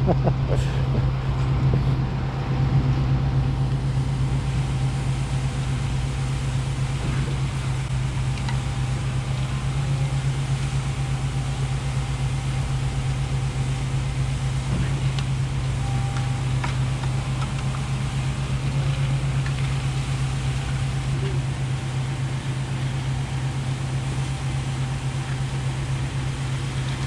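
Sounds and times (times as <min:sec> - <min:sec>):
truck engine humming: 0:00.0 - 0:27.0.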